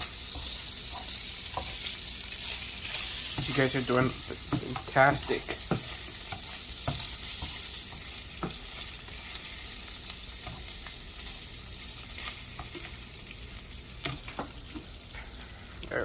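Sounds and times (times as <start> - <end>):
bacon sizzling in a pan: 0.0 - 16.0.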